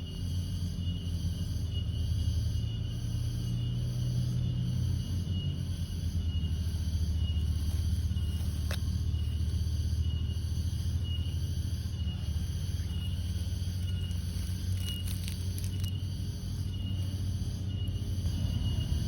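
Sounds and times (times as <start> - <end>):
cricket chirping: 0.0 - 19.0
steady low rumble: 3.7 - 19.0.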